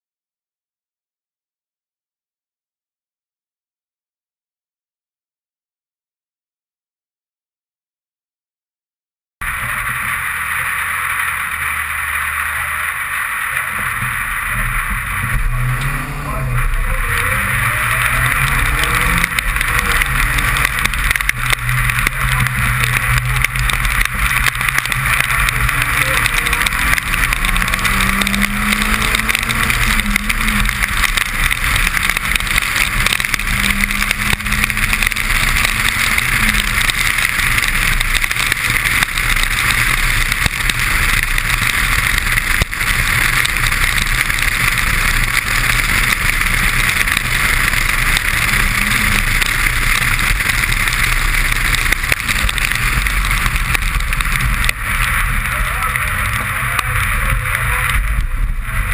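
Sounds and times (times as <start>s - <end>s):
rally car engine under load: 9.4s - 58.9s
spray and road noise hiss: 9.4s - 58.9s.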